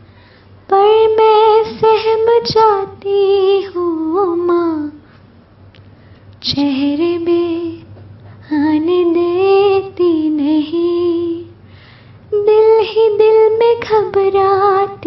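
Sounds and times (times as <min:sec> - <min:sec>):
woman singing a slow song: 0:00.6 - 0:05.2, 0:06.4 - 0:11.6, 0:12.3 - 0:15.0.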